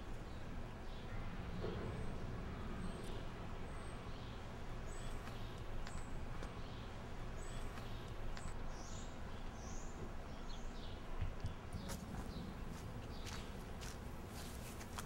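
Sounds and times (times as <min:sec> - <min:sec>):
small birds chirping: 0:00.0 - 0:15.0
steady low background noise: 0:00.0 - 0:15.0.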